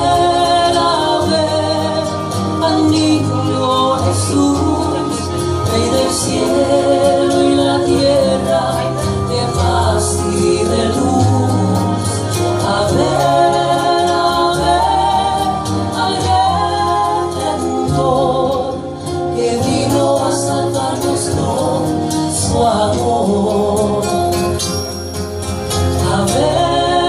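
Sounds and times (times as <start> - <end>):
person singing: 0.0 - 24.6, 26.0 - 27.0
live gospel jazz band: 0.0 - 27.0.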